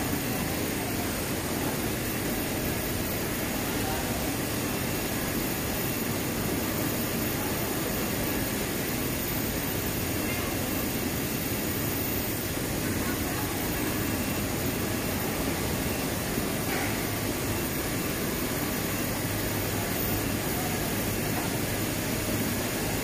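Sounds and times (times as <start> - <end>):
machinery running with low hum: 0.0 - 23.0.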